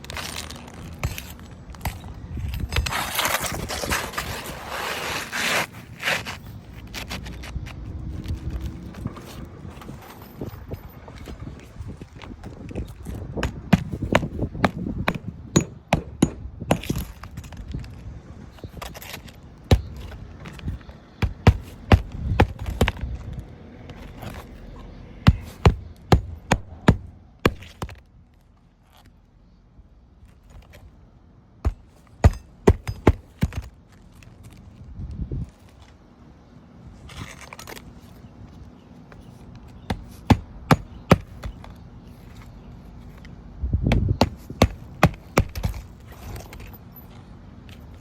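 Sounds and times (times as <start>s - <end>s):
low scraping and handling noise: 0.0s - 29.2s, 30.2s - 48.0s.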